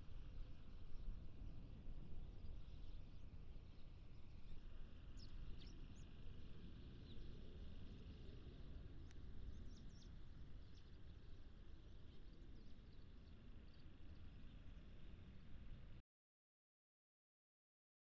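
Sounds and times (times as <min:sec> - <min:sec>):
sparrows chirping faintly: 0:00.1 - 0:16.0.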